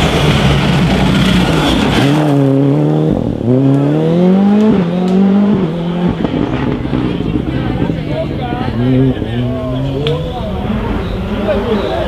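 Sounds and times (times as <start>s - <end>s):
engine upshifts: 0.0s - 12.0s
rally car engine at full throttle: 0.0s - 12.0s.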